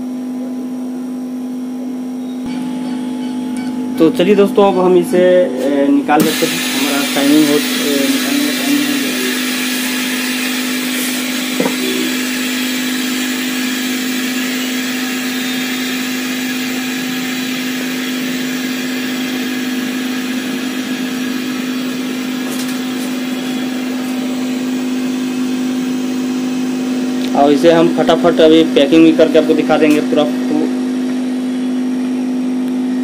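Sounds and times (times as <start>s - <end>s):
steady electric hum: 0.0s - 33.0s.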